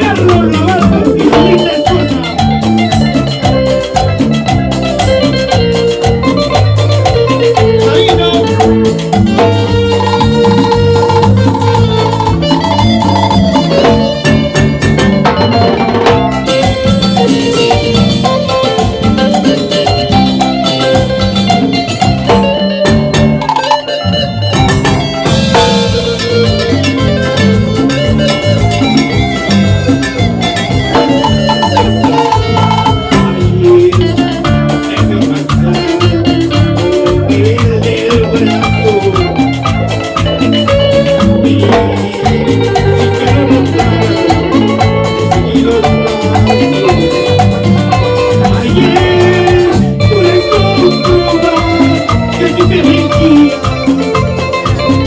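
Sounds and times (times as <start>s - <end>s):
live band playing latin dance music: 0.0s - 55.0s.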